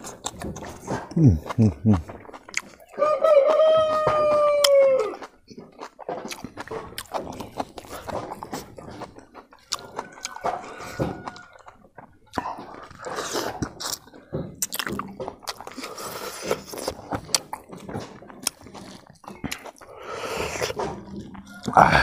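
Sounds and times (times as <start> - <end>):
lip smacks and mouth clicks: 0.0 - 3.6, 4.6 - 21.8
wet chewing of rice: 0.0 - 22.0.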